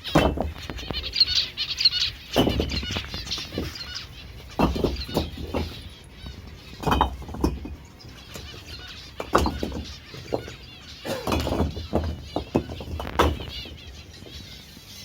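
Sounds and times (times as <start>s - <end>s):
knocks and clattering: 0.0s - 14.8s
small birds chirping: 0.0s - 15.0s.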